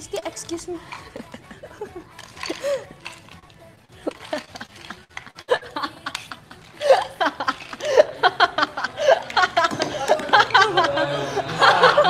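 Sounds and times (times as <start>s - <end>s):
young women laughing: 1.0s - 2.9s, 4.0s - 12.0s.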